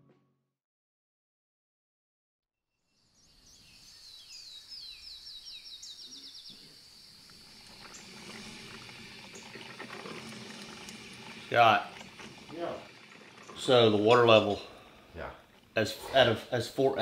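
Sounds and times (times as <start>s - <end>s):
faint outdoor ambience: 2.9s - 17.0s.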